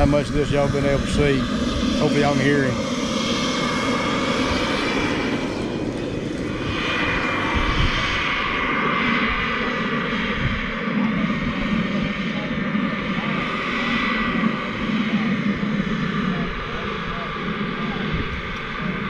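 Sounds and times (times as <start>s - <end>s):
model jet turbine whine: 0.0s - 19.0s.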